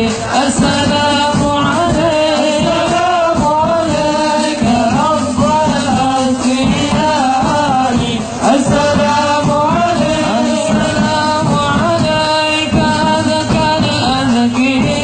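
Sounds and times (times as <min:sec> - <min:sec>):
musical accompaniment: 0:00.0 - 0:15.0
person singing devotional song: 0:00.0 - 0:15.0.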